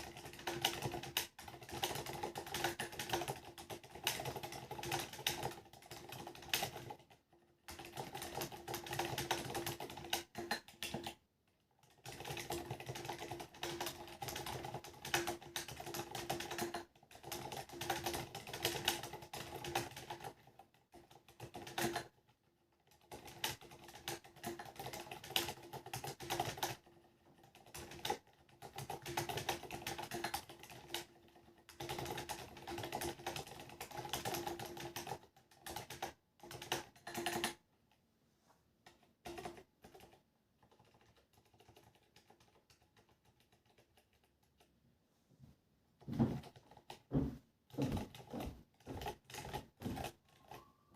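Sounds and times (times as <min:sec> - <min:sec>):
typing on mechanical keyboard: 0:00.0 - 0:37.6, 0:38.8 - 0:44.7, 0:46.0 - 0:50.9.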